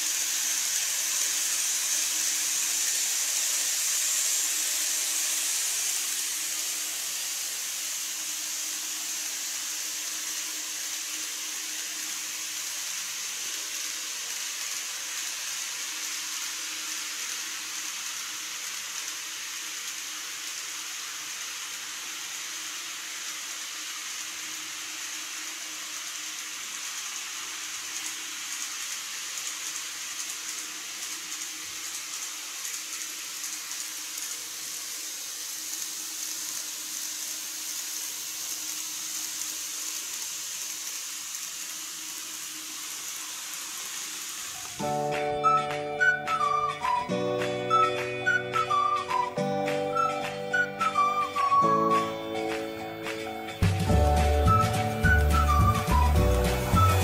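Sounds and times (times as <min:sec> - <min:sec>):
model train whirring on track: 0:00.0 - 0:57.0.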